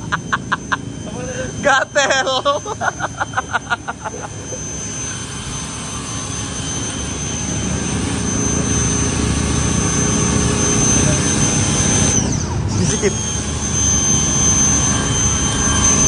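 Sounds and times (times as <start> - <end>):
pressure washer motor humming: 0.0 - 16.0.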